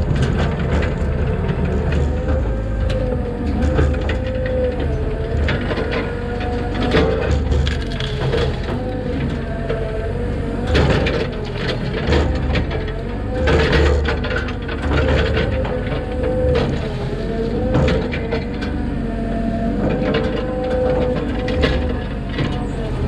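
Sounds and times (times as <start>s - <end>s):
machine knocks and clanks: 0.0s - 9.8s, 10.6s - 19.0s, 19.8s - 23.0s
diesel engine under load: 0.0s - 23.0s.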